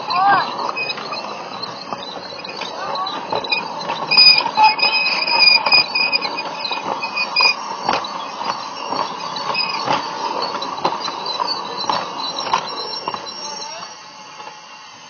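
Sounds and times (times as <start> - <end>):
high steady tone: 0.0 - 15.0
toy train running: 0.0 - 15.0
wheels clicking over track joints: 0.0 - 15.0.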